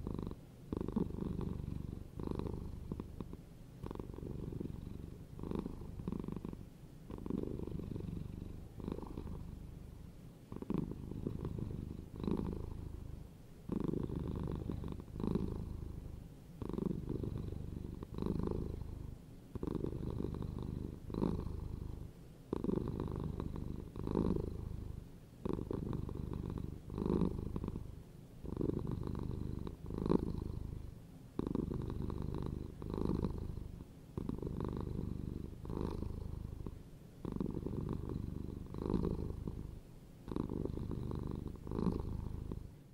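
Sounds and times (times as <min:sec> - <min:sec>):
cats purring: 0:00.0 - 0:42.9.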